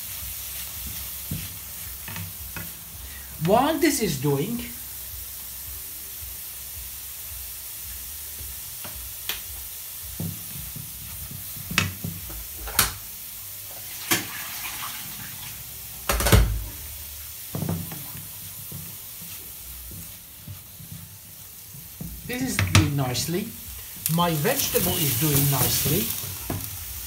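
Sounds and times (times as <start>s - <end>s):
food sizzling in frying pan: 0.0s - 27.0s.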